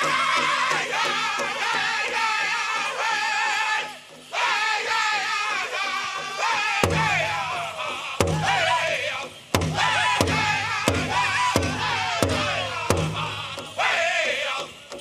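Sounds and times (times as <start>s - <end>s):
big drum heavy beats: 0.0s - 3.3s, 3.9s - 15.0s
group singing high-pitched phrases: 0.0s - 15.0s.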